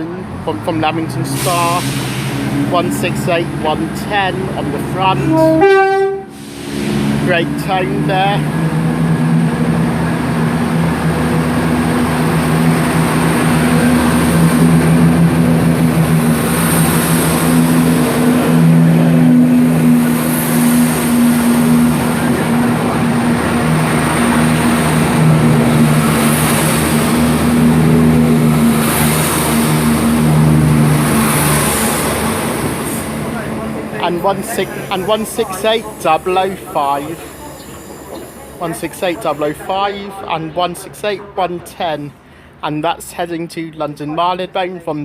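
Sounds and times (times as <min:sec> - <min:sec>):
diesel train engines droning: 0:00.0 - 0:45.0.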